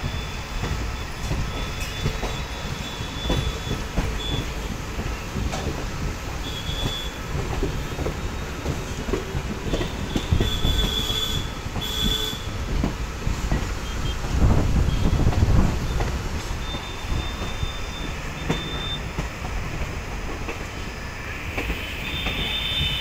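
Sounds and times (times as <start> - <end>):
train wheels rumbling: 0.0 - 23.0
wheels squealing on rails: 0.0 - 23.0.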